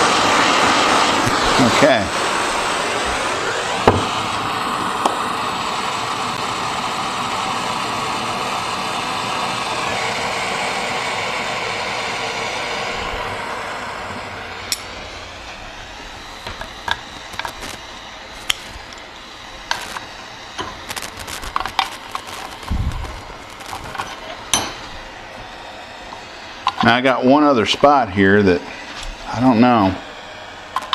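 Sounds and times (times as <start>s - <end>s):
torch flame hissing: 0.0s - 30.9s.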